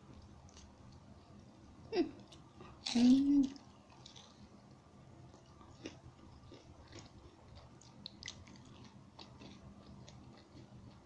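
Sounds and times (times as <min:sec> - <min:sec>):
faint chewing with crunches: 0:00.0 - 0:01.5, 0:02.2 - 0:11.0.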